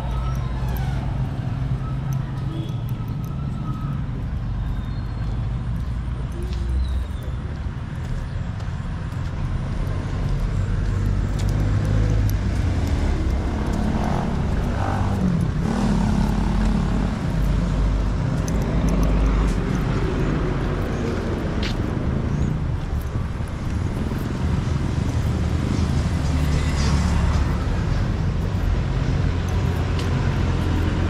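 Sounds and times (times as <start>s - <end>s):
traffic passing on street: 0.0s - 31.0s.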